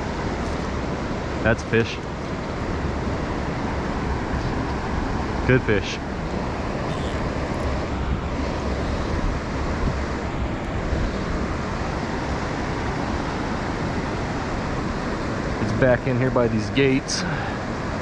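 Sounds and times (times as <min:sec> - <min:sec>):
river water running: 0:00.0 - 0:18.0.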